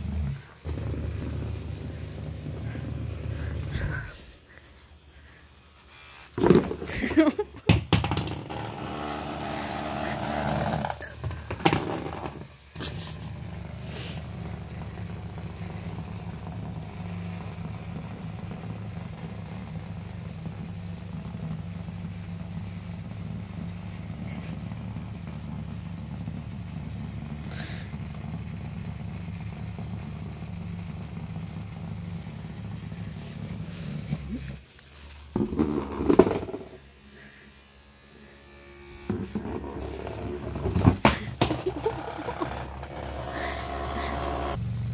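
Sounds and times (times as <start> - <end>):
massager motor buzzing: 0.0 - 4.2, 6.3 - 44.9.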